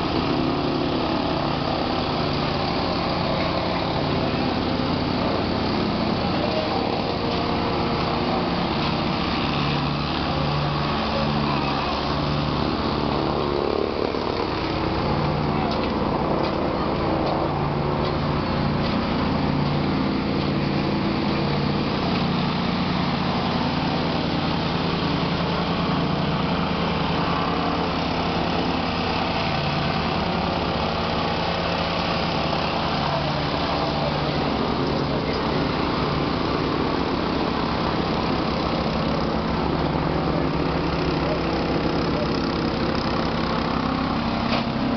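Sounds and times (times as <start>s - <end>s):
plate compactor engine running: 0.0s - 44.9s.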